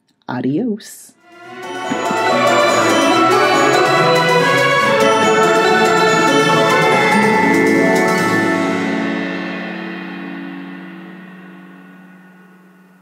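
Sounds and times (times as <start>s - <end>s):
theme music with held notes: 1.2s - 11.9s.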